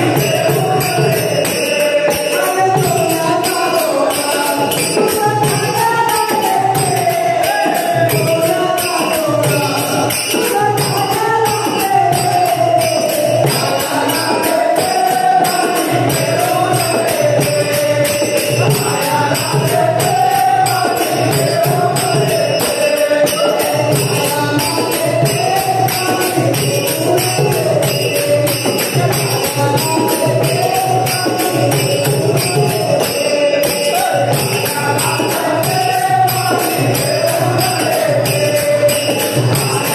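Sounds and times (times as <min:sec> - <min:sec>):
small hand cymbals: 0:00.0 - 0:39.9
voices singing devotional song: 0:00.0 - 0:39.9.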